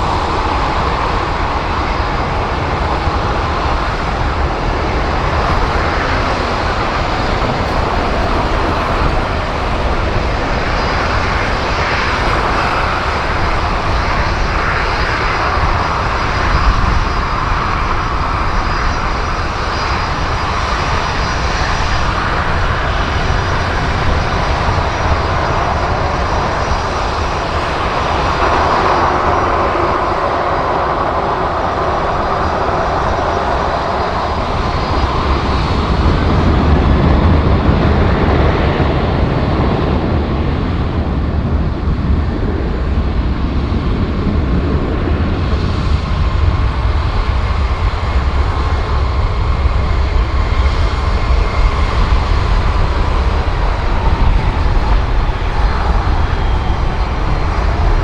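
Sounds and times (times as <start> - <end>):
deep rumble: 0.0 - 58.0
jet engines rushing: 0.0 - 58.0.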